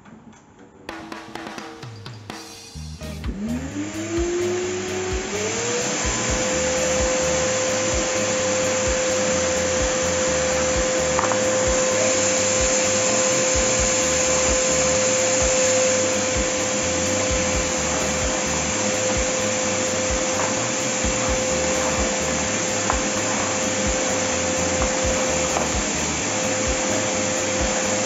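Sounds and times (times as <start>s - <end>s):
vacuum cleaner running: 2.9s - 28.0s.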